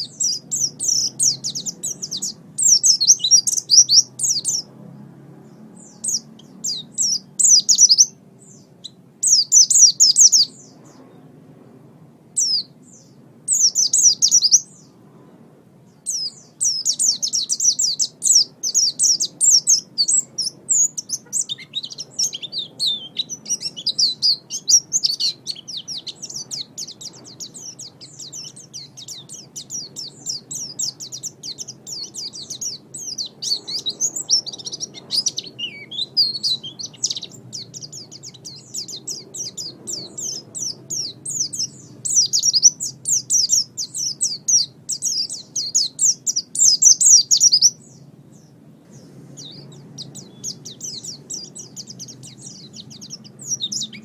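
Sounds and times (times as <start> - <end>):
small bird twittering: 0.0 - 4.8, 5.4 - 11.3, 12.4 - 15.0, 15.9 - 54.0.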